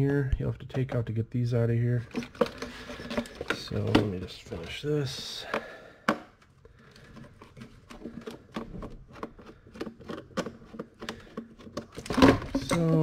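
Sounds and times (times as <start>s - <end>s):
plastic parts clicking and knocking: 2.0s - 13.0s.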